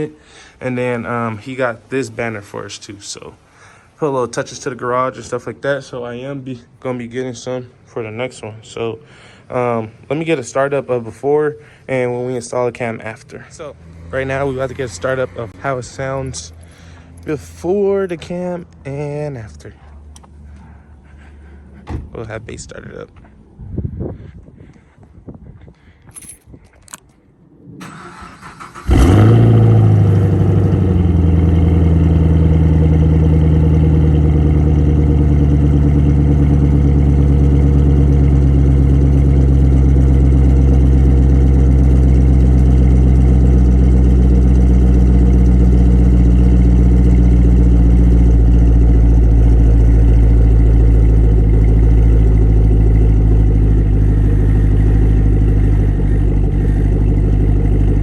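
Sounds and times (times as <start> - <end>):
car engine starting and idling: 0.0 - 23.6, 26.1 - 58.0.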